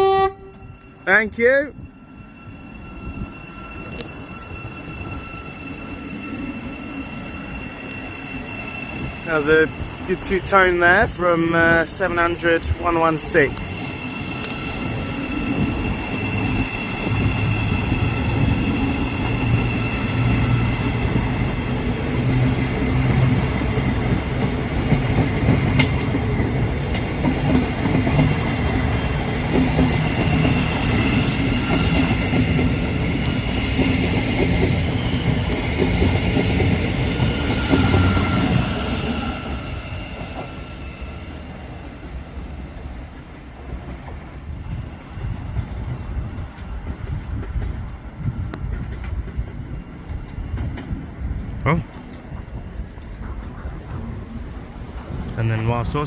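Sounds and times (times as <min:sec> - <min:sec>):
electric train whine: 0:00.0 - 0:56.0
wheels rumbling on rails: 0:01.7 - 0:56.0.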